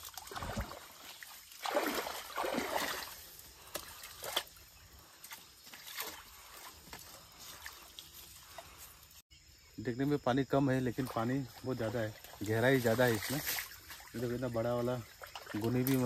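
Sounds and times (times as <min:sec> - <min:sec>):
water splashing and sloshing: 0:00.0 - 0:09.2, 0:10.8 - 0:16.0.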